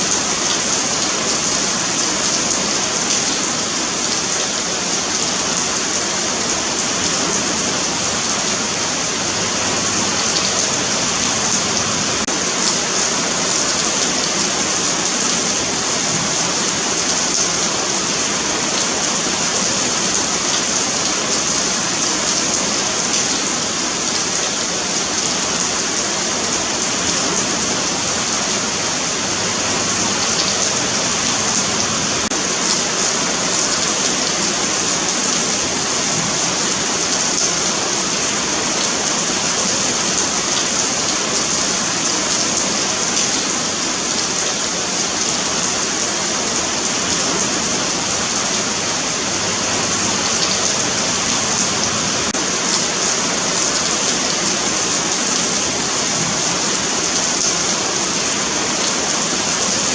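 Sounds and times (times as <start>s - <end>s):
rain pattering on pavement: 0.0s - 59.9s.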